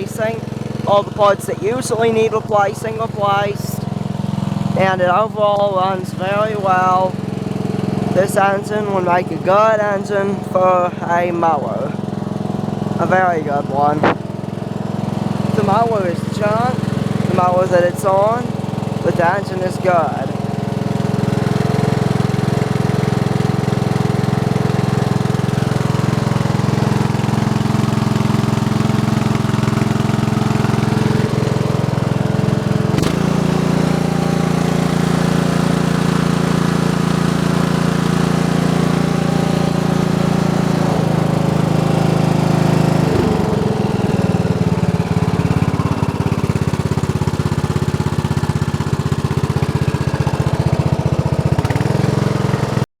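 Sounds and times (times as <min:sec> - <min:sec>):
engine running steadily: 0:00.0 - 0:52.8.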